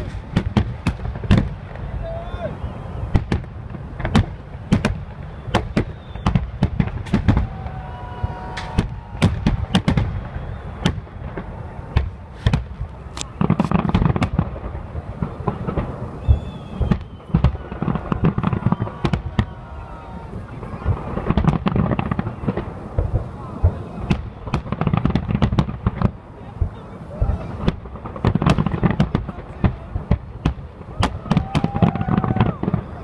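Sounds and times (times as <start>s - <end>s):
low background noise: 0.0s - 33.0s.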